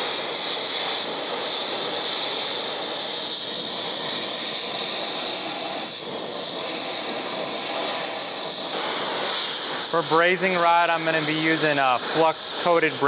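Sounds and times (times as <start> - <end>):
torch flame hissing: 0.0 - 13.0.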